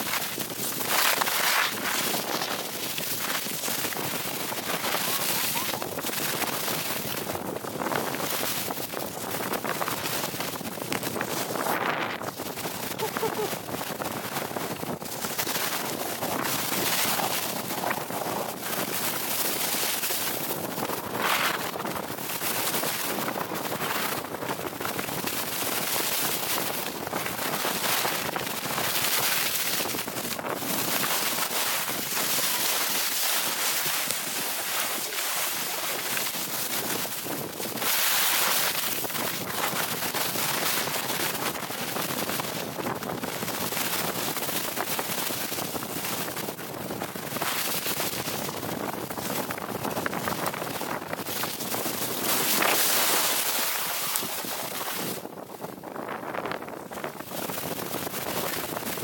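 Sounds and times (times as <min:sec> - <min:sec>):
skis scraping over snow: 0:00.0 - 0:55.4
wind rushing over microphone: 0:00.0 - 0:59.0.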